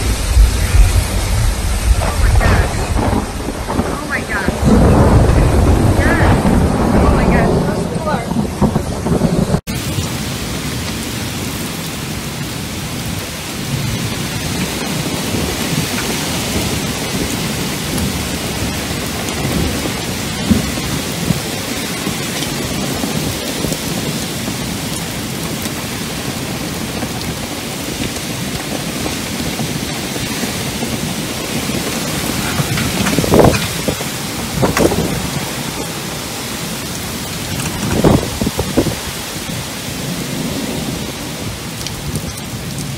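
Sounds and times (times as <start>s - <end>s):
heavy wind-driven rain: 0.0s - 42.9s.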